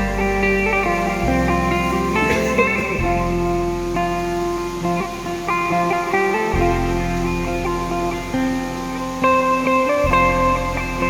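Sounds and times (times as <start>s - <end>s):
bass line: 0.0s - 5.8s, 6.5s - 9.3s, 10.0s - 11.0s
guitar chords: 0.0s - 11.0s.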